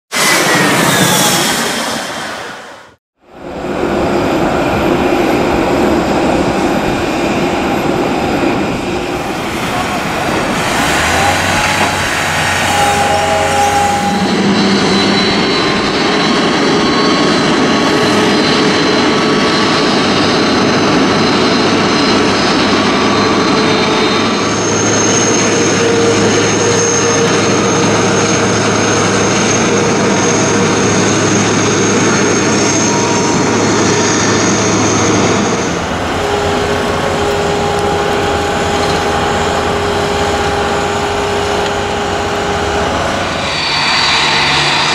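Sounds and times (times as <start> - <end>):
high engine whine: 0.1 - 44.9
jet engine rumble: 0.1 - 44.9.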